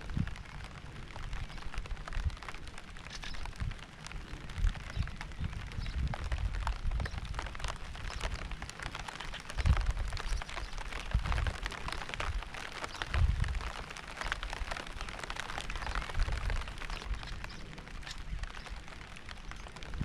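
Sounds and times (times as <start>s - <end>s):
rain falling: 0.0s - 20.0s
raindrops striking close by: 0.0s - 20.0s.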